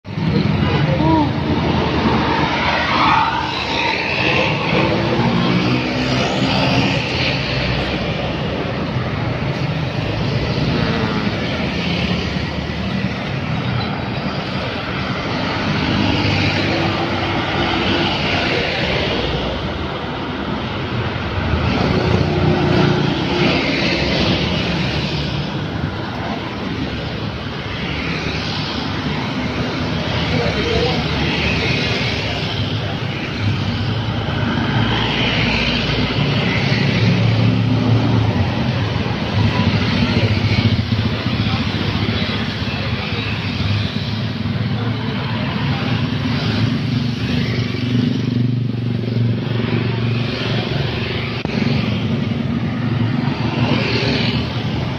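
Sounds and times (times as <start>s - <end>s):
road traffic passing: 0.0s - 54.9s.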